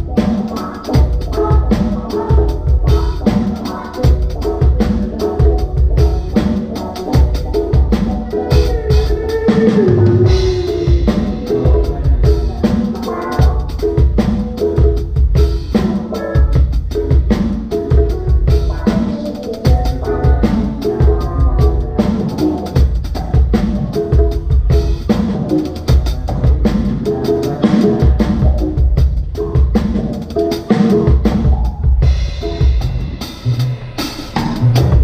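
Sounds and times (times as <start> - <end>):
bass and keyboard notes: 0.0 - 35.0
drum kit beat: 0.0 - 35.0
live band playing: 0.0 - 35.0.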